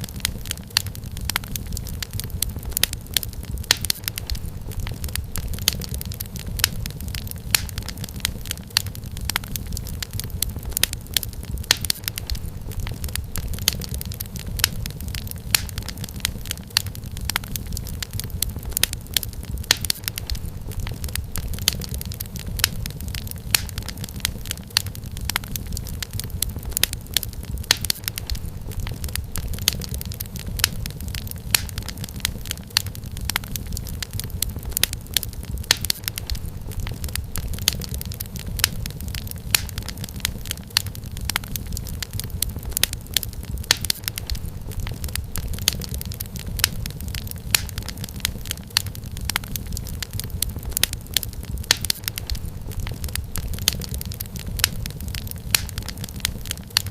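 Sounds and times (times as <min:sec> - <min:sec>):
low rumble of burning logs: 0:00.0 - 0:56.9
wood fire crackling and popping: 0:00.0 - 0:56.9.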